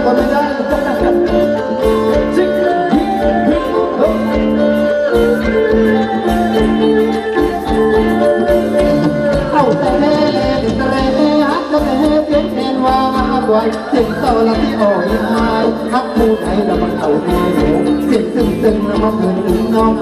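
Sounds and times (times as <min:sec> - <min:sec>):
steady drum beat: 0:00.0 - 0:20.0
sustained band melody: 0:00.0 - 0:20.0.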